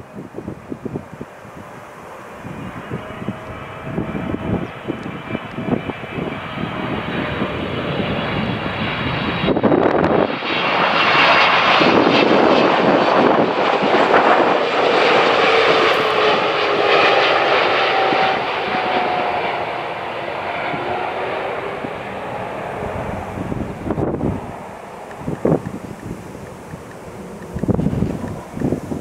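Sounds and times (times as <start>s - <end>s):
jet engine roar: 0.0s - 29.0s
jet engine whine: 0.0s - 29.0s.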